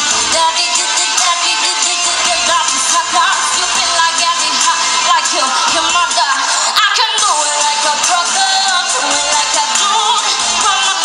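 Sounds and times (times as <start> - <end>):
girl singing pop song: 0.0 - 11.0
pop backing track: 0.0 - 11.0.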